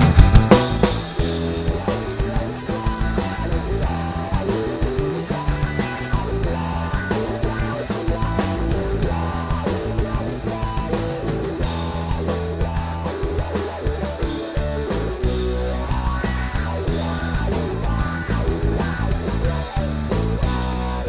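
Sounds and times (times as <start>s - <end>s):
drum kit beat: 0.0s - 21.0s
electric guitars: 0.0s - 21.0s.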